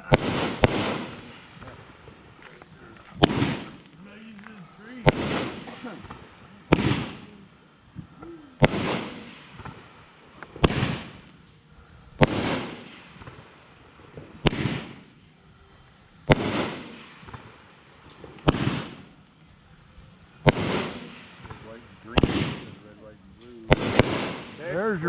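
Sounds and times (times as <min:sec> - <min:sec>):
fireworks bangs: 0:00.0 - 0:11.5, 0:12.2 - 0:15.4, 0:16.2 - 0:25.0
faint fireworks pops: 0:00.0 - 0:25.0.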